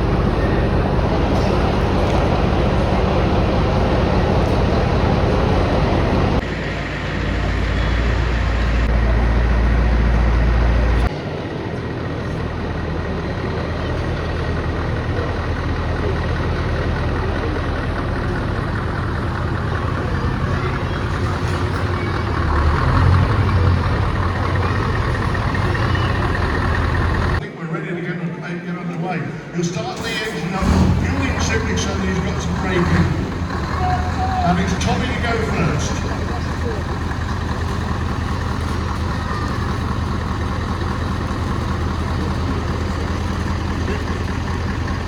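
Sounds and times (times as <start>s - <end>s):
truck engine idling: 0.0s - 27.4s, 29.8s - 45.0s.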